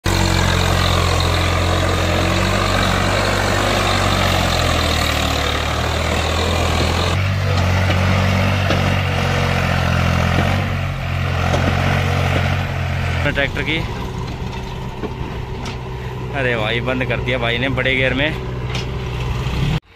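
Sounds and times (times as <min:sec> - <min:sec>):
tractor diesel engines working hard: 0:00.0 - 0:19.9.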